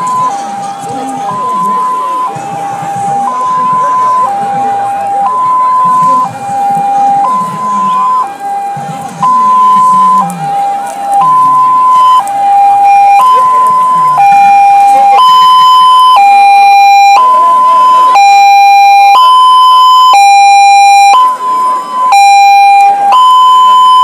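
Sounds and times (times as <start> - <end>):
two-tone hi-lo siren: 0.0 - 24.0.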